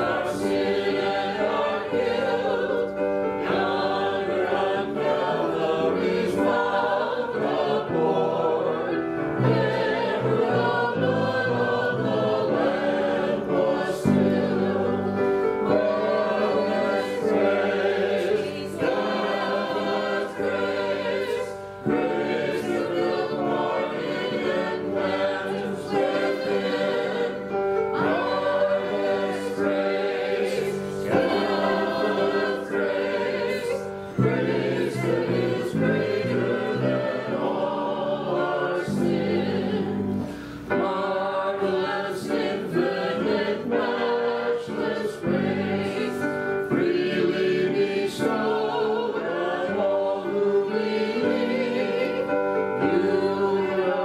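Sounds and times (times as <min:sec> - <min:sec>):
keyboard: 0:00.0 - 0:54.0
voices singing together: 0:00.0 - 0:54.0.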